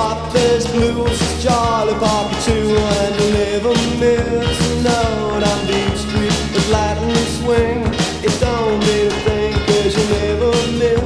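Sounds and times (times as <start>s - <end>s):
bass: 0.0s - 11.0s
drum beat: 0.0s - 11.0s.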